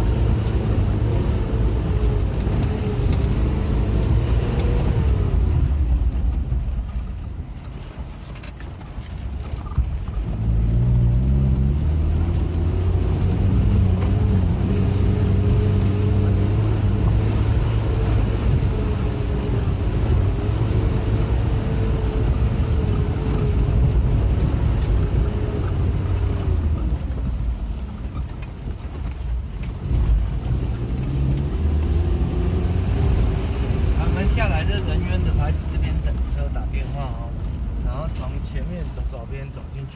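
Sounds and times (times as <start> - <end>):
vehicle engine under load: 0.0 - 39.9.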